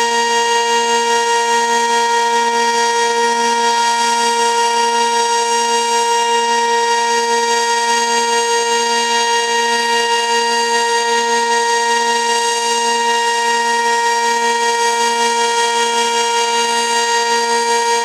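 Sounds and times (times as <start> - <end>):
warning siren steady tone: 0.0 - 18.0.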